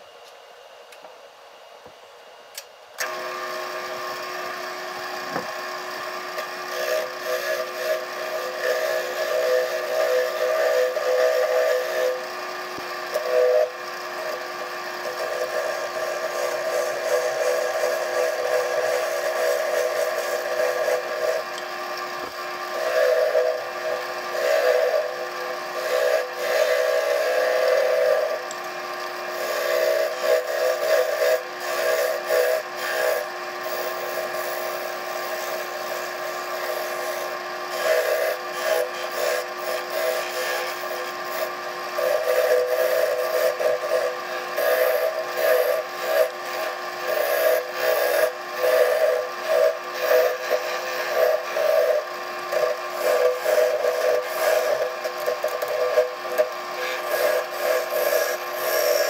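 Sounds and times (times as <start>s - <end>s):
turning tool cutting wood: 3.0s - 59.0s
wood lathe whining: 3.0s - 59.0s.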